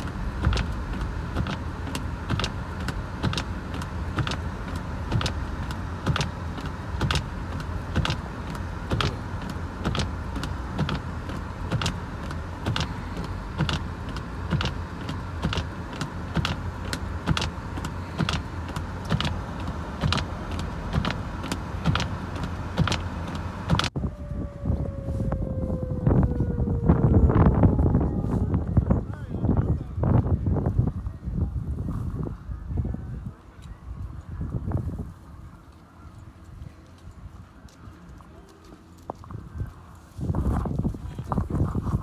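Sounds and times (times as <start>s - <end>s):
vehicle road rumble: 0.0s - 42.0s.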